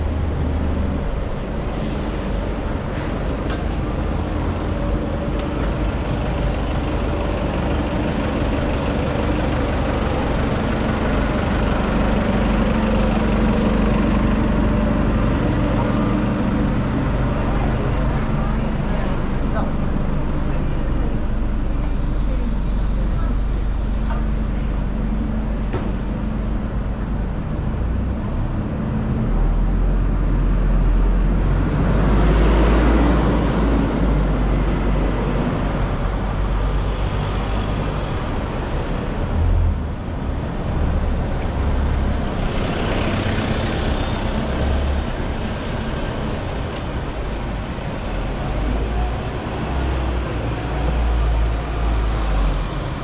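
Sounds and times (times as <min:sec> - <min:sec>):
road traffic rumble: 0:00.0 - 0:53.0
vehicles passing close by: 0:00.0 - 0:53.0.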